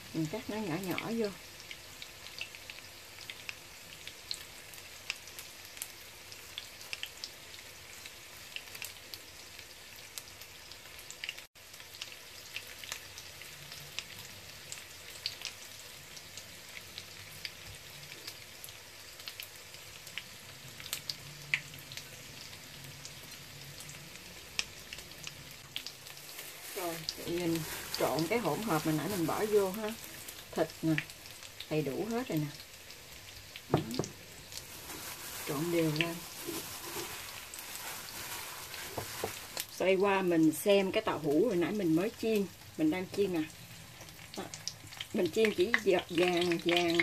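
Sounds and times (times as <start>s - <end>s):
oil crackling and popping: 0.0s - 47.0s
tofu sizzling in hot oil: 0.0s - 47.0s.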